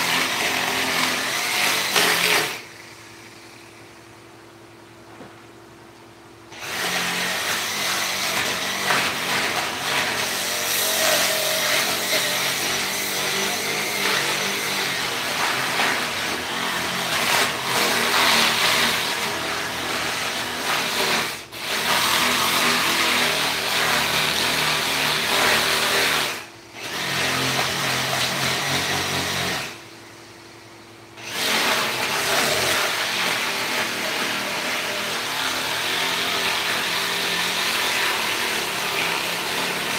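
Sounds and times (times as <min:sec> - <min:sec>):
power tool carving wood: 0:00.0 - 0:03.8, 0:06.5 - 0:29.8, 0:31.2 - 0:39.9.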